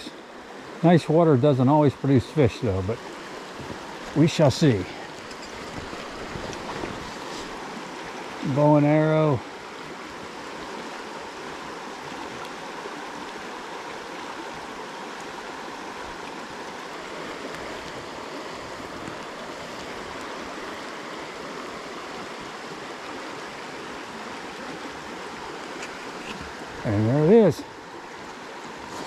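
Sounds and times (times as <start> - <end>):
stream rushing over stones: 0.0 - 29.0.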